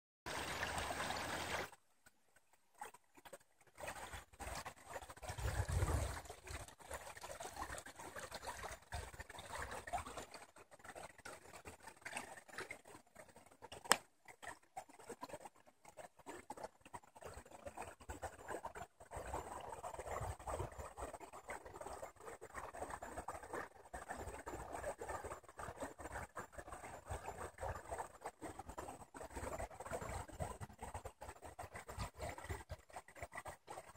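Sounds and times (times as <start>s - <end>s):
faint trickle of river water: 0.3s - 33.9s.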